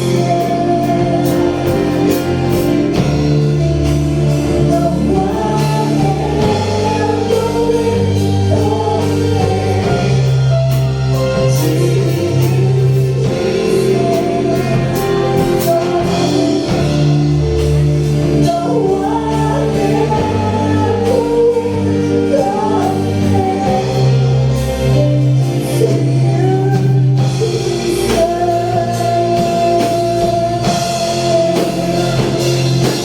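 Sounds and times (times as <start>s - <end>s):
congregation singing: 0.0s - 33.0s
worship band playing: 0.0s - 33.0s.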